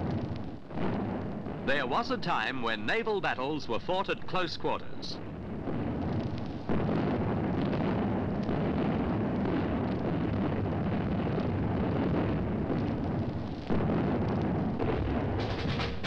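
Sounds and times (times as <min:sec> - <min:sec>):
heavy cannon fire: 0:00.0 - 0:04.3, 0:05.1 - 0:16.0.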